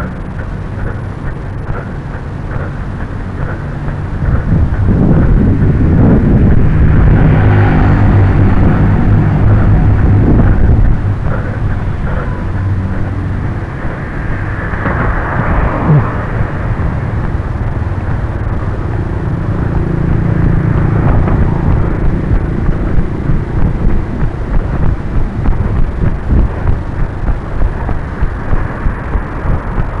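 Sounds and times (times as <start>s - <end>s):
wind rumble: 0.0s - 30.0s.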